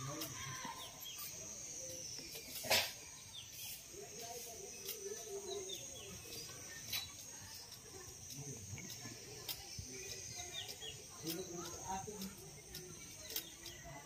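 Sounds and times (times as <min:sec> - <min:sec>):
high-pitched insect buzz: 0:00.0 - 0:14.0
small birds chirping: 0:00.0 - 0:14.0.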